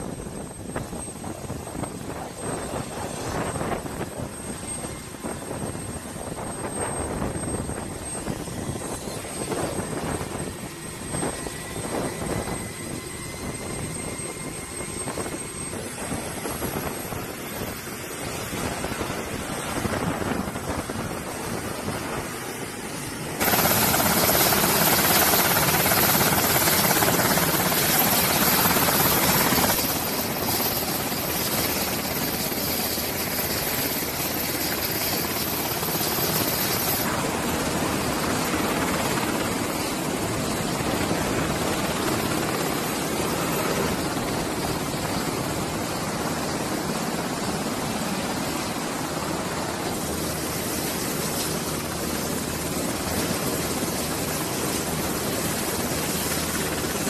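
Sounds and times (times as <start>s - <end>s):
helicopter whine and rotor noise: 0.0s - 57.0s.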